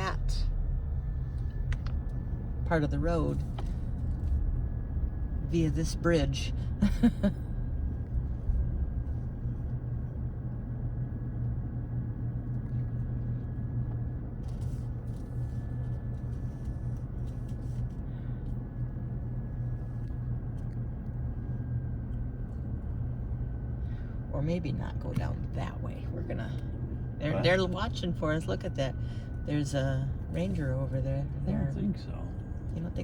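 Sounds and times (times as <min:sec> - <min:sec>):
car driving low rumble: 0:00.0 - 0:33.0.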